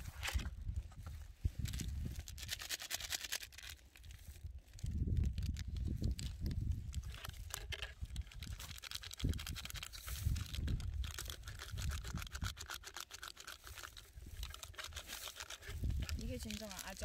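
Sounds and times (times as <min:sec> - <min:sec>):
food packaging crinkling: 0:01.6 - 0:17.0.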